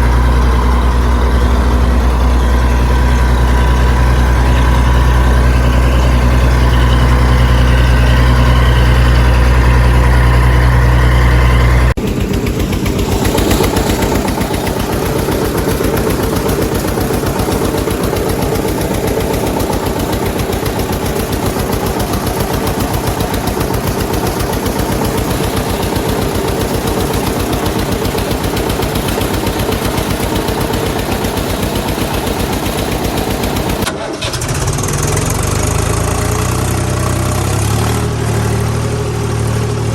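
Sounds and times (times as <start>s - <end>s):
engine running with fast chatter: 0.0s - 39.9s
heavy engine idling: 0.0s - 39.9s.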